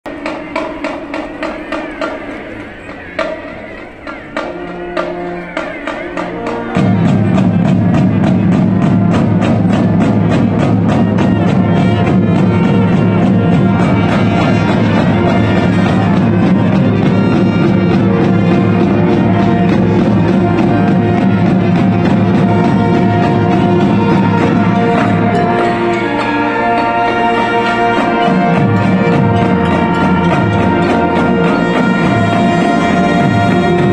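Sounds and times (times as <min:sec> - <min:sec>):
marching band brass: 0:00.0 - 0:33.9
steady drum beat: 0:00.1 - 0:33.9.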